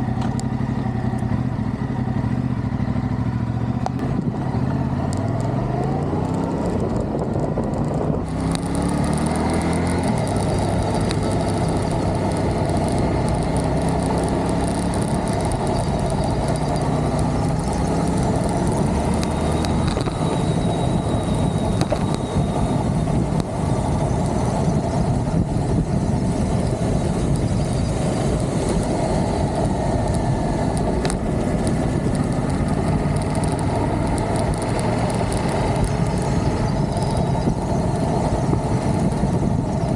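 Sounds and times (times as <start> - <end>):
motorcycle engine accelerating: 0.0 - 39.9
wind rush on microphone: 3.9 - 39.9.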